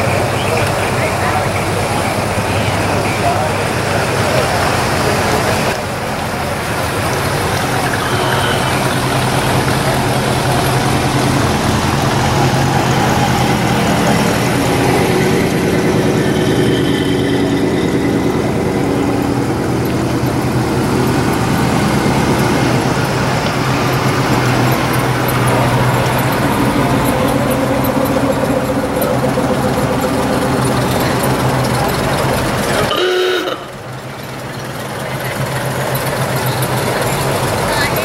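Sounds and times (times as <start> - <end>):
car engines rolling past: 0.0 - 38.0.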